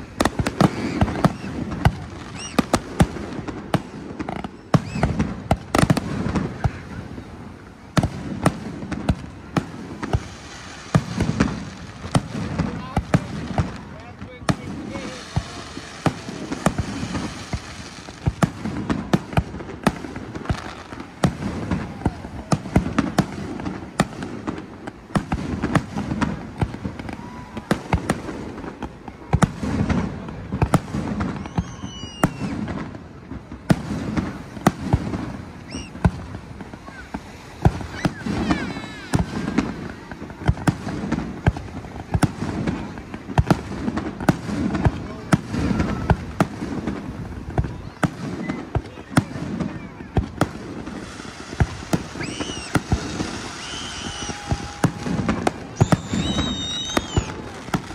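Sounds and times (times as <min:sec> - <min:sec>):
crowd chatter: 0:00.0 - 0:57.9
fireworks bangs and pops: 0:00.0 - 0:57.9.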